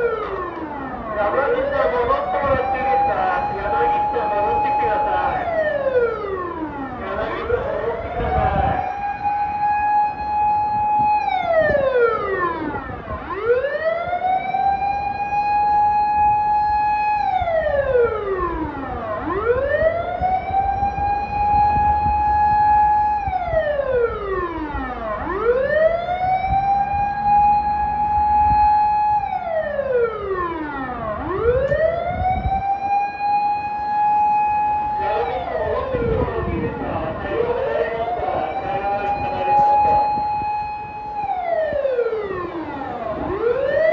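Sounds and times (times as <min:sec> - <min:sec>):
siren wailing: 0:00.0 - 0:43.9.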